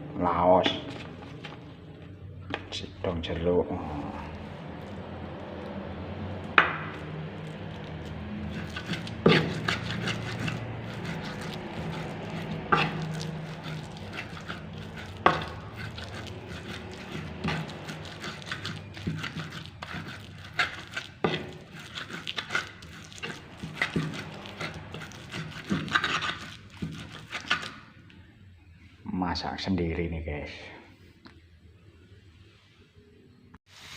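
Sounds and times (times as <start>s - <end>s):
utensil scraping and knocking pot: 0.4s - 28.0s.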